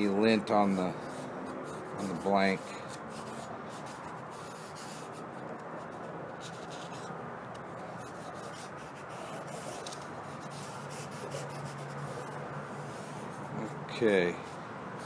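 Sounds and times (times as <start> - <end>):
paper wipe rubbing on steel: 0.6 - 7.1, 7.7 - 15.0.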